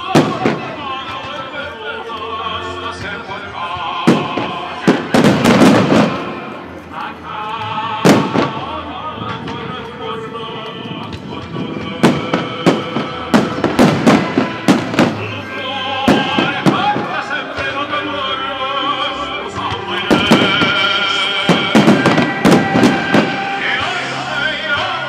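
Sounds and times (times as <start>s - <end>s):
loud music: 0.0s - 25.0s
operatic singing voice: 0.0s - 25.0s.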